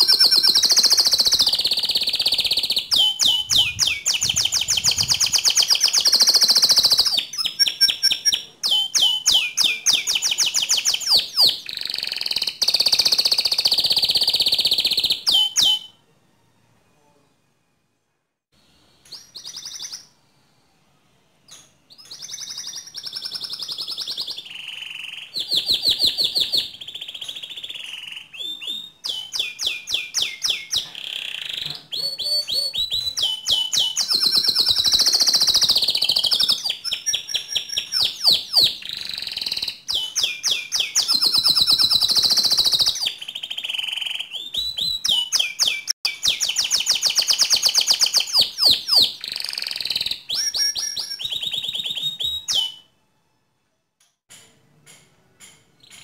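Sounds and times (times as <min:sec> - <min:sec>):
canary singing trills: 0:00.0 - 0:16.0, 0:19.1 - 0:20.2, 0:21.5 - 0:52.9.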